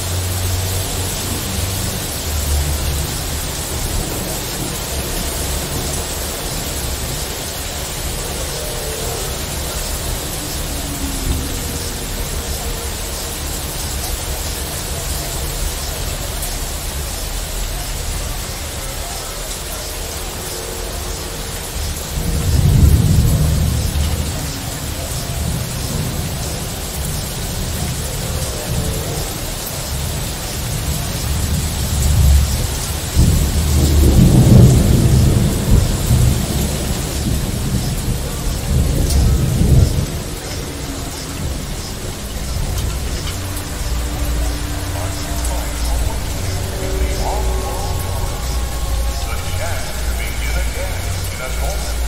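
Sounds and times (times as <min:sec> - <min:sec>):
deep low drone: 0:00.0 - 0:52.0
rain hiss: 0:00.0 - 0:52.0
thunder rumbling: 0:00.0 - 0:52.0.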